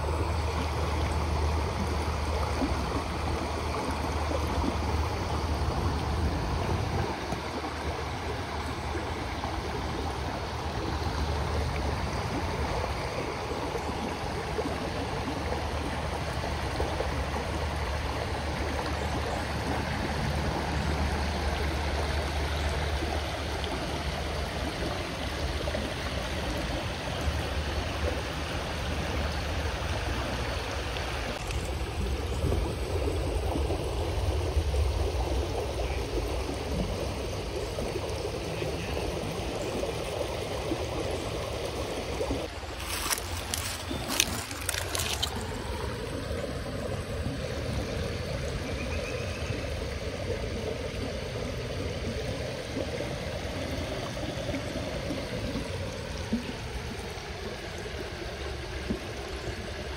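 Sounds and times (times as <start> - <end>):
creek running over rocks: 0.0 - 59.9.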